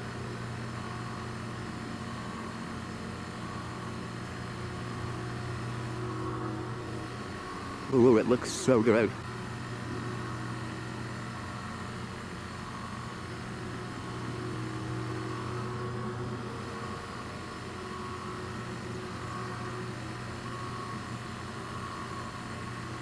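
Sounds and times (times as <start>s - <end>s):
siren rotator motor humming: 0.3s - 23.0s.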